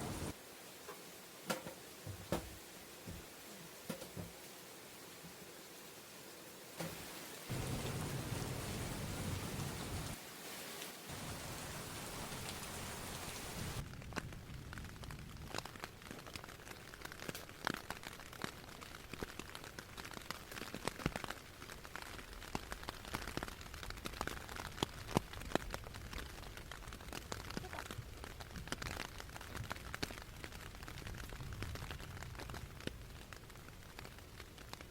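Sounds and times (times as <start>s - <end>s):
rain drops tapping: 0.0s - 4.4s, 6.8s - 10.2s, 10.8s - 34.9s
heavy rain falling: 0.0s - 34.9s.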